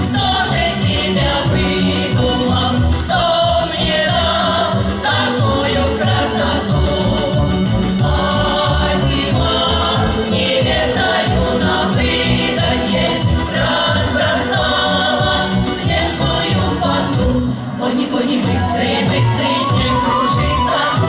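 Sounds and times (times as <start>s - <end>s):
folk choir singing: 0.0s - 21.0s.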